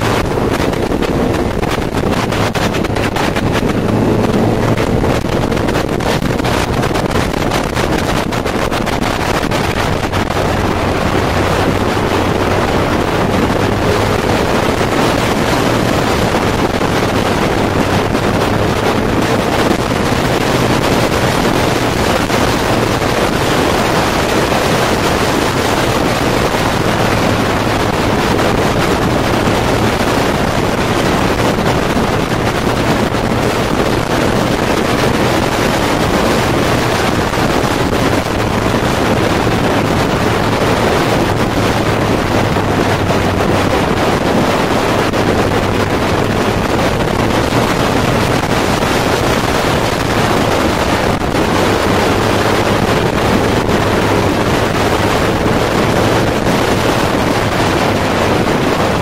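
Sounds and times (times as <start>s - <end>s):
motorcycle engine droning: 0.0s - 59.0s
wind rushing over microphone: 0.0s - 59.0s.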